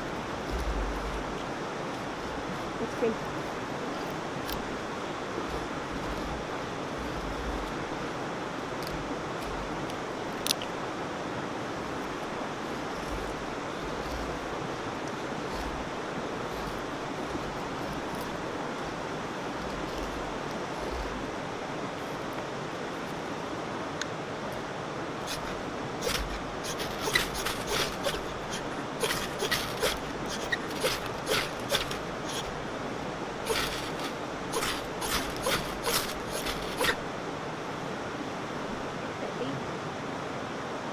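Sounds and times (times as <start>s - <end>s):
scraping crunching sounds: 0.0s - 23.4s, 25.2s - 37.1s
rushing water: 0.0s - 40.9s.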